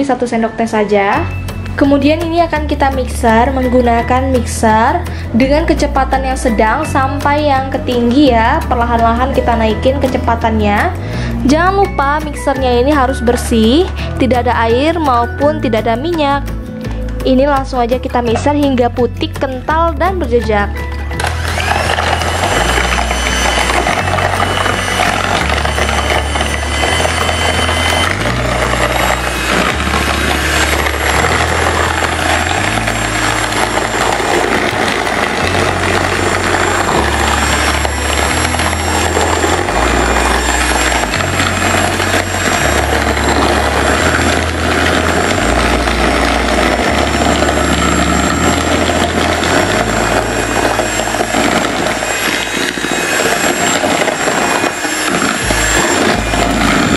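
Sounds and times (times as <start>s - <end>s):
background music bass line: 0.9s - 52.4s
electric hand mixer whisking: 1.3s - 56.9s.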